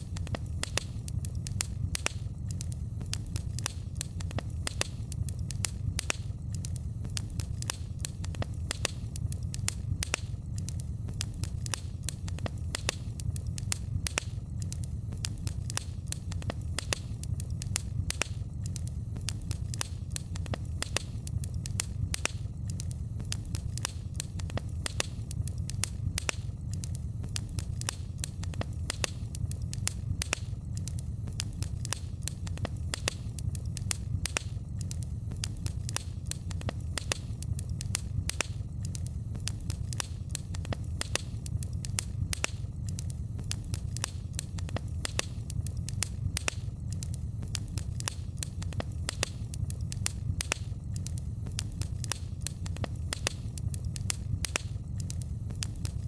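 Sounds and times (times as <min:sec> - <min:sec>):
low rumble of fire: 0:00.0 - 0:56.0
wood fire crackling: 0:00.0 - 0:56.0.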